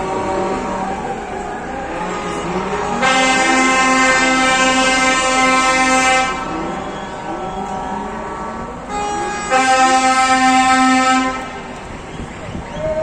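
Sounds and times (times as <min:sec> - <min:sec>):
softer horn tone: 0:00.0 - 0:11.8
truck air horns blowing: 0:00.0 - 0:13.0.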